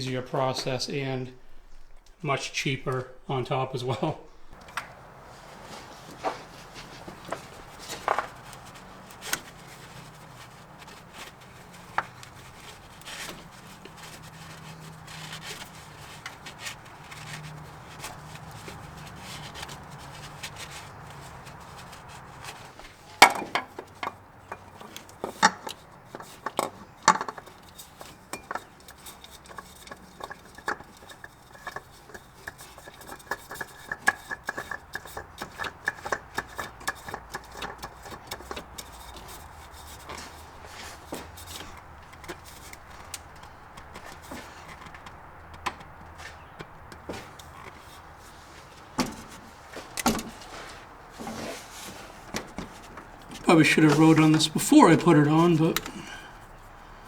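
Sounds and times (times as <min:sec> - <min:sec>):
tools clicking and knocking: 0:04.6 - 0:50.6, 0:51.9 - 0:56.6.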